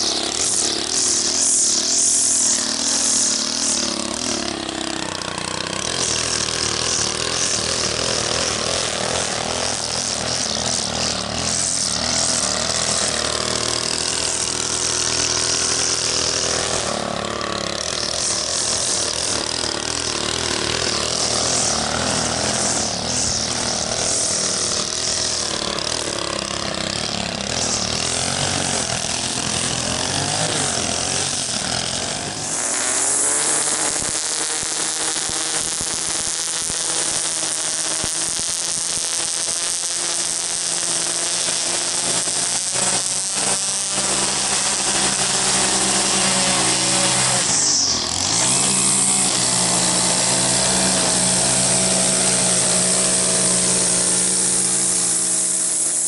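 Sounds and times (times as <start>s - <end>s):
string trimmer engine: 0.0s - 56.0s
trimmer line hissing: 0.0s - 56.0s.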